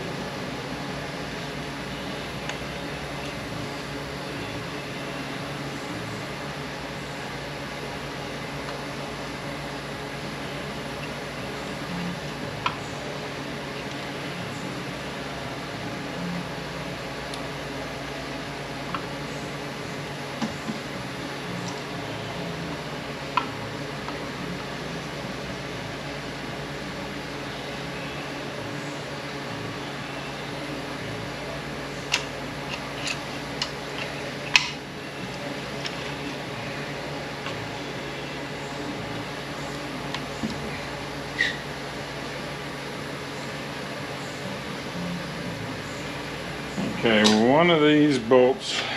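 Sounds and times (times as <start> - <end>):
machine hum with hiss: 0.0 - 48.9.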